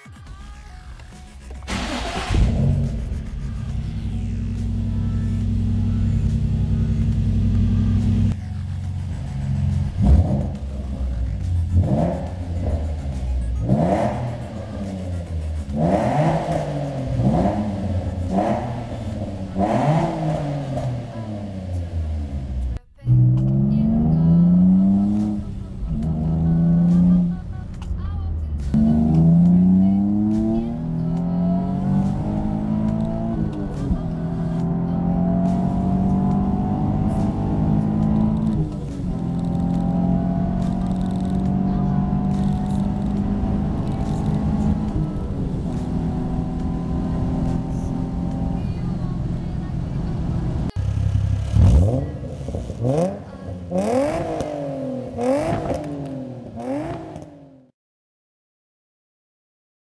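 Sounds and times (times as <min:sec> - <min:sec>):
car engine accelerating: 0:00.8 - 0:57.7
car engine throttle blips: 0:00.8 - 0:57.7.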